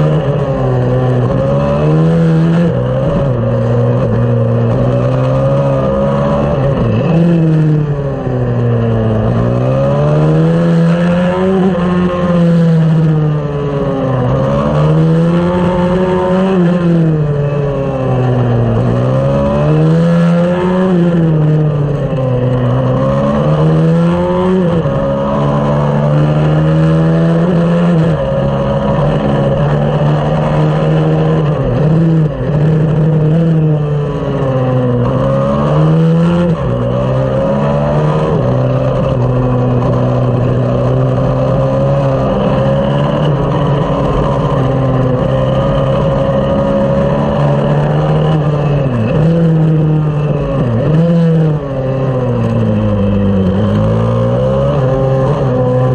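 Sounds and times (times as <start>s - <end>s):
minibike engine revving: 0.0s - 55.9s.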